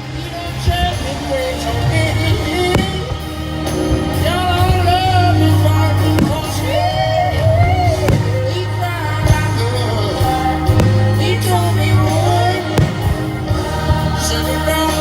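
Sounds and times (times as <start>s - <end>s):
fireworks bangs: 0.0s - 15.0s
pop song with singer: 0.0s - 15.0s.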